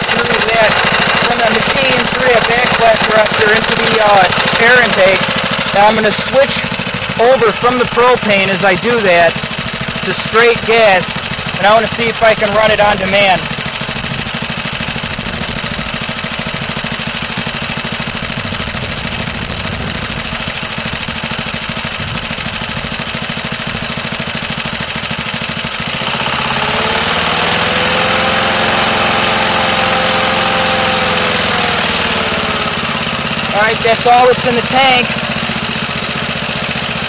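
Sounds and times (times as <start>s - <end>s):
small lawnmower engine running: 0.0s - 37.0s.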